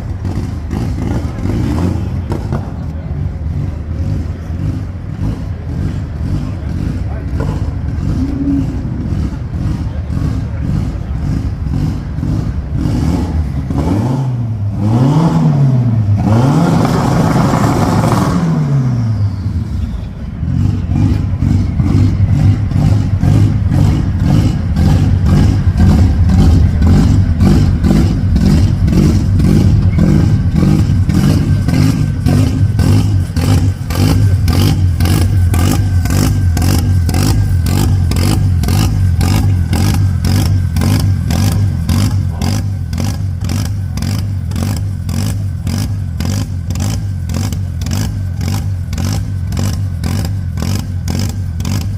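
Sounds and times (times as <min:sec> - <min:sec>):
car engine revving and idling: 0:00.0 - 0:51.9.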